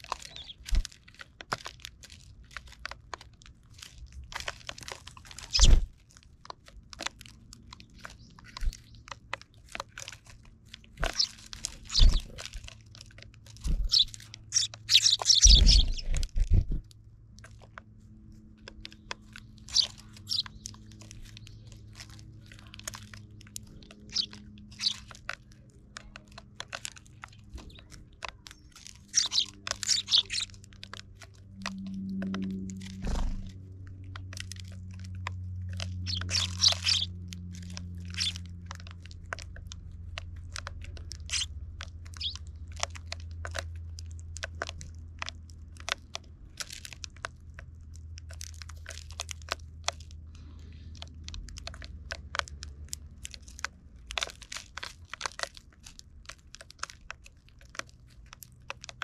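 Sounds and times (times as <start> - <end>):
birds cracking seeds: 0.0 - 59.0
low steady hum: 0.0 - 59.0.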